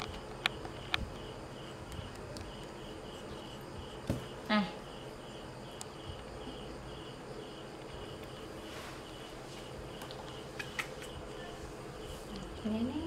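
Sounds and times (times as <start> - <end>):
high-pitched insect chirping: 0.0 - 13.0.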